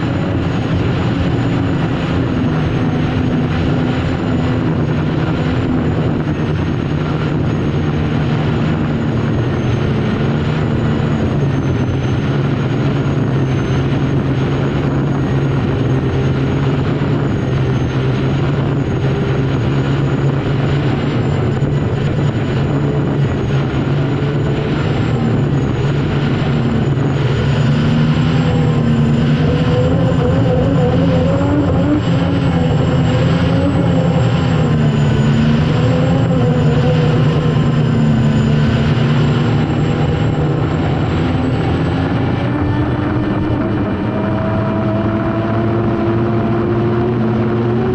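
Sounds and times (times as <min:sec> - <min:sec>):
gas turbine engine whine: 0:00.0 - 0:47.9.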